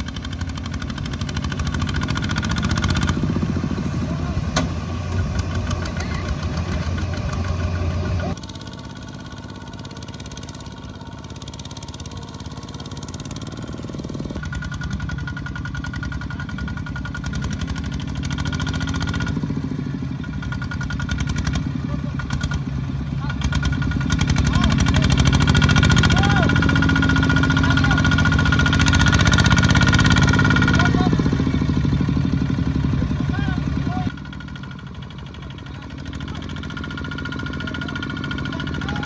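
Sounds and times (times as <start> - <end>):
walking tractor diesel engines: 0.0 - 39.0.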